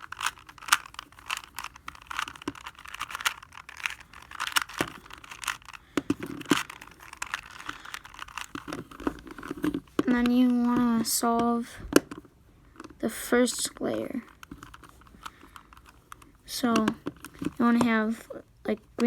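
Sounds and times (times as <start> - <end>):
puzzle cube clicking: 0.0 - 12.2, 13.7 - 18.0.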